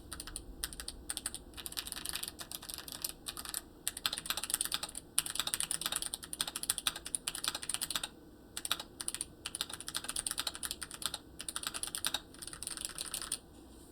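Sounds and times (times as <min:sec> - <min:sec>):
mechanical keyboard typing: 0:00.1 - 0:13.4.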